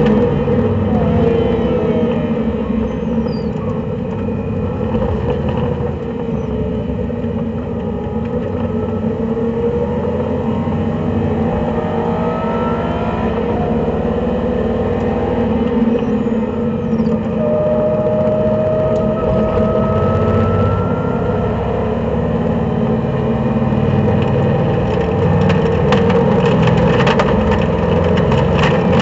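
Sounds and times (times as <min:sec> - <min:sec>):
car engine from inside cabin: 0:00.0 - 0:29.0.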